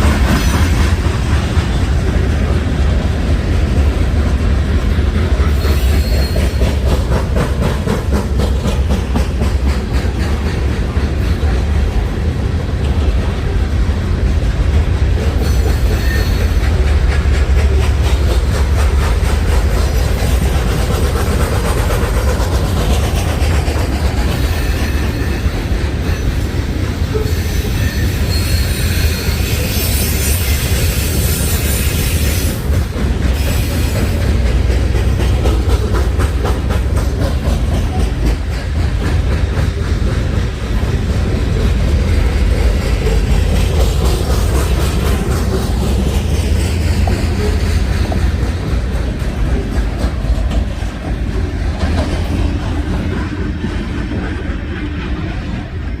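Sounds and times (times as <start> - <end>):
freight train rolling past: 0.0 - 56.0
high wheel-on-rail noise: 0.0 - 56.0
wheels clacking over rail joints: 0.0 - 56.0.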